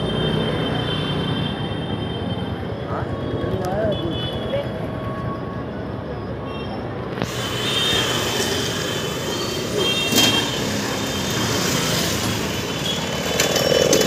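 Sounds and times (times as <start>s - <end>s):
motorbike and scooter engines: 0.0s - 14.0s.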